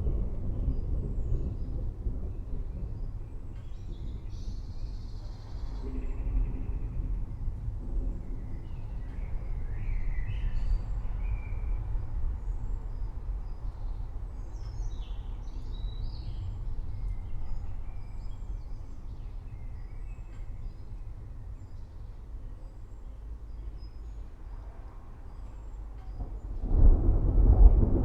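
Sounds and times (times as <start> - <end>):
distant thunder rumbling: 0.0 - 23.6, 25.1 - 28.0.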